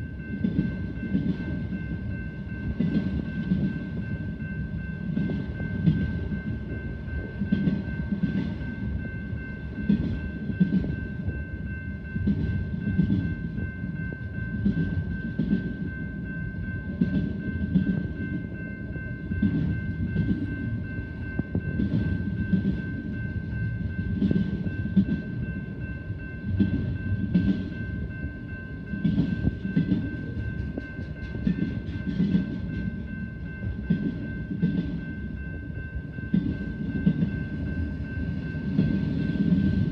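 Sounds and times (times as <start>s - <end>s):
train low rumble: 0.0s - 39.9s.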